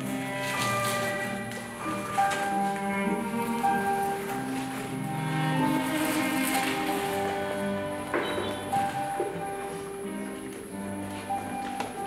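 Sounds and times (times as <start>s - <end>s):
low held music notes: 0.0s - 12.0s.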